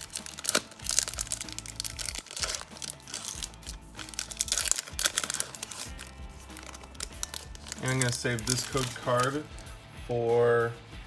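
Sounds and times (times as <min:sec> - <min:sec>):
foil wrapper crinkling and tearing: 0:00.0 - 0:09.6
background music: 0:00.0 - 0:11.0.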